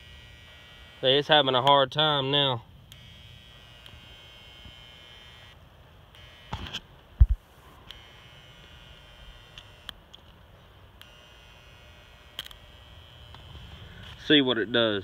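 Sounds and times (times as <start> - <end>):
compressor electrical hum and buzz: 0.0 - 15.0.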